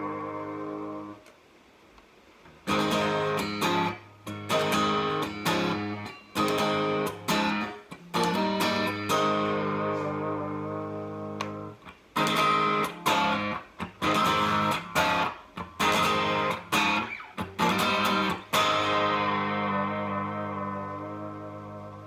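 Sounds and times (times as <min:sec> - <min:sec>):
electric guitar chords: 0:00.0 - 0:01.3, 0:02.5 - 0:22.0.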